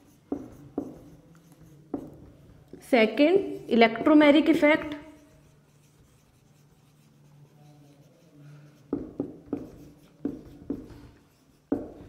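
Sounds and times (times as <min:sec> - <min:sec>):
marker writing on whiteboard: 0:00.0 - 0:12.0.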